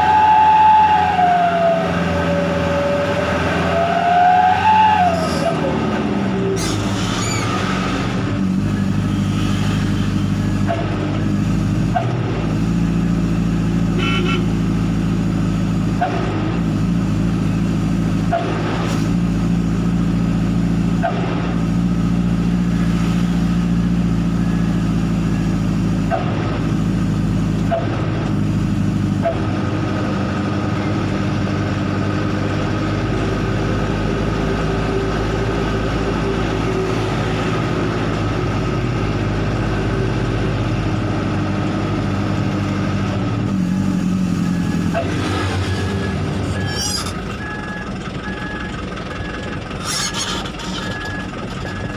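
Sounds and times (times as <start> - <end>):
diesel truck engine drone: 0.0 - 51.9.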